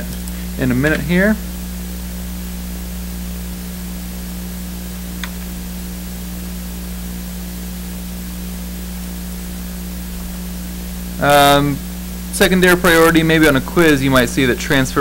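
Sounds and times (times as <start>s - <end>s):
low electrical hum: 0.0s - 15.0s
microphone hiss: 0.0s - 15.0s.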